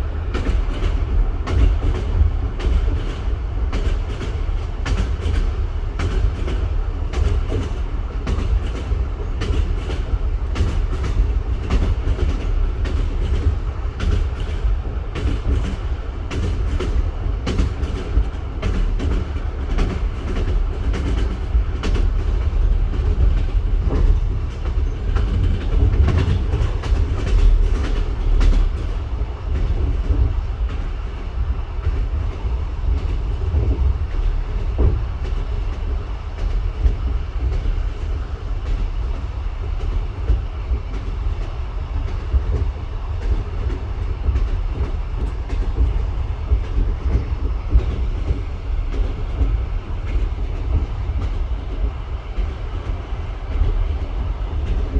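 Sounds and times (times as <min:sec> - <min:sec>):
train rumbling: 0:00.0 - 0:54.9
train wheels clattering over rail joints: 0:00.0 - 0:54.9.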